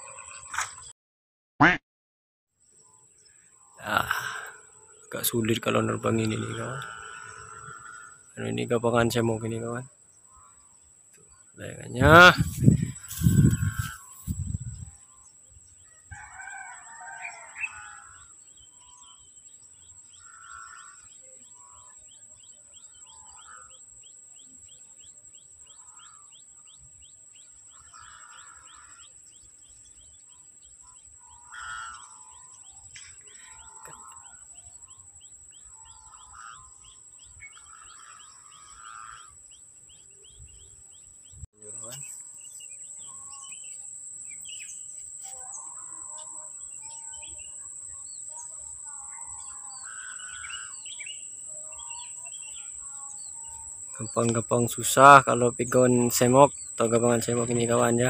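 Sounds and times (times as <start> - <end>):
birds calling: 3.1 - 58.0.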